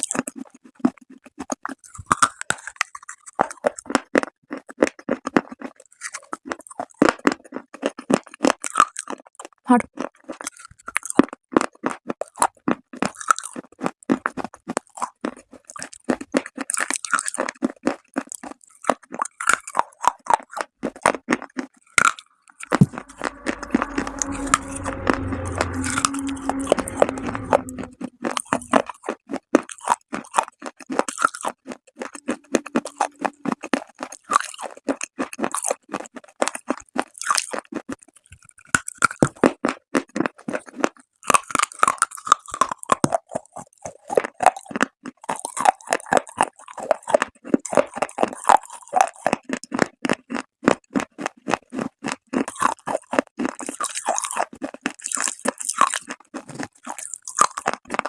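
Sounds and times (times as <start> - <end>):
chewing dry clay crunches: 0.0 - 22.9, 28.3 - 58.0.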